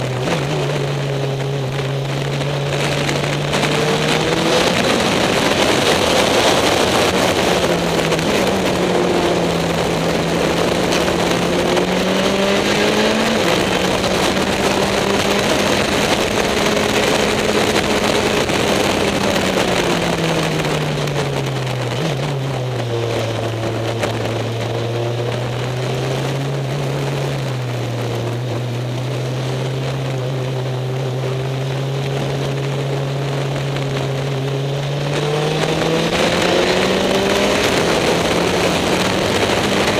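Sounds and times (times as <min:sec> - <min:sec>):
race car engine: 0:00.0 - 0:39.9
wind rush: 0:00.0 - 0:39.9.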